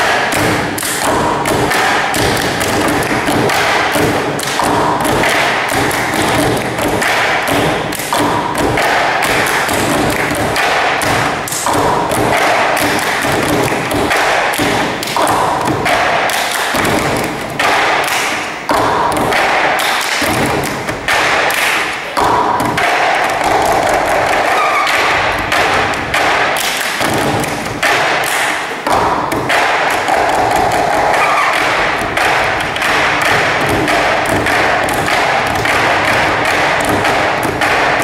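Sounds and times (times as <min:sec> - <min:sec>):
hand claps: 0:00.0 - 0:38.0
plastic cups tapped on table: 0:00.0 - 0:38.0.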